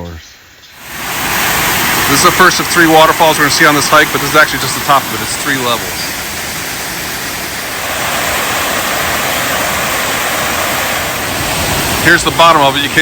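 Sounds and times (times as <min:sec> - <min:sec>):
waterfall crashing: 0:00.8 - 0:13.0.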